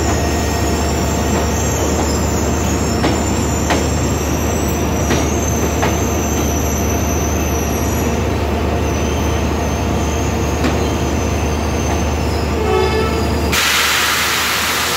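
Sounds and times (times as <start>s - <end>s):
train wheels squealing: 0.0s - 13.6s
train rolling rumble: 0.0s - 14.9s.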